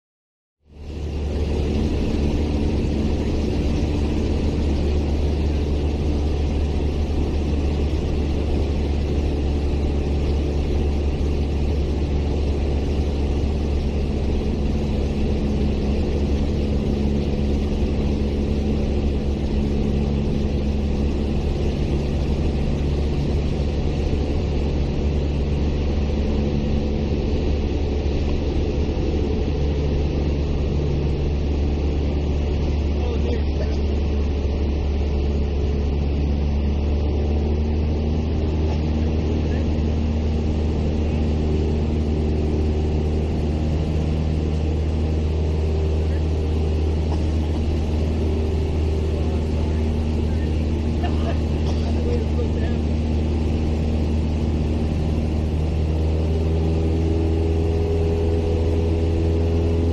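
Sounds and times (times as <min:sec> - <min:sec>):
aircraft engine drone in cabin: 0:00.6 - 0:59.9.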